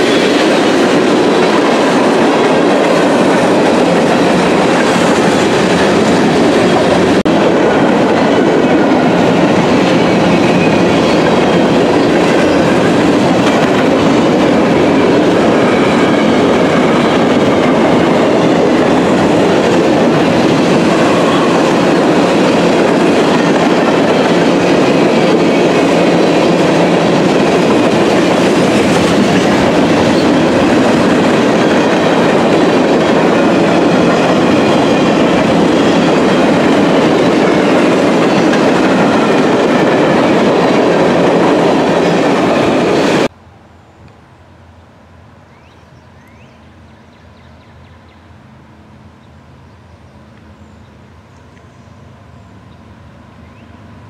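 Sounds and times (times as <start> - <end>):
steel wheels rumbling on rail: 0.0 - 44.0
distant approaching train: 0.0 - 54.0.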